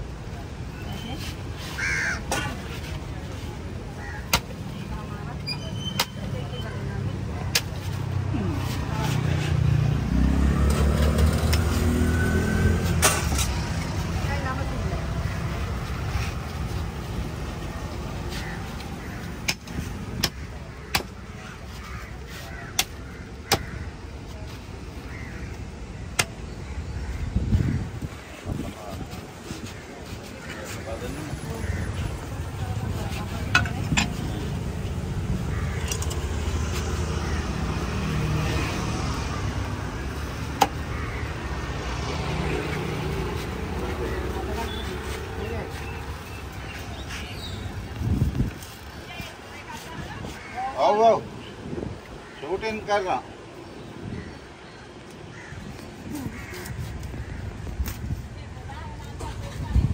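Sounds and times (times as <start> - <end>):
road traffic hum: 0.0 - 59.9.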